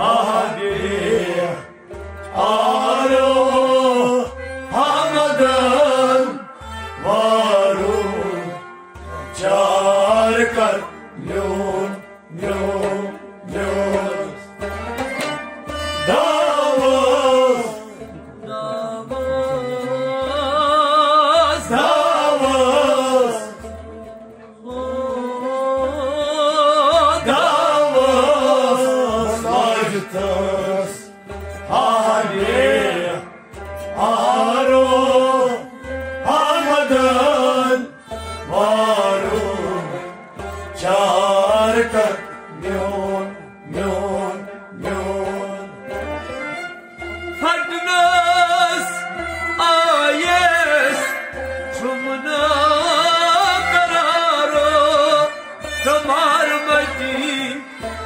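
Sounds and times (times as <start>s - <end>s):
instrumental accompaniment: 0.0s - 58.0s
man singing: 0.0s - 58.0s.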